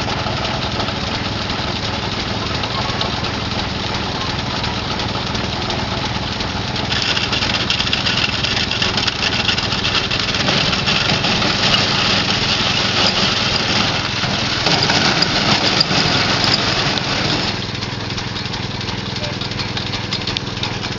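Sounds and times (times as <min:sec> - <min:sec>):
stationary gas engine running: 0:00.0 - 0:20.9.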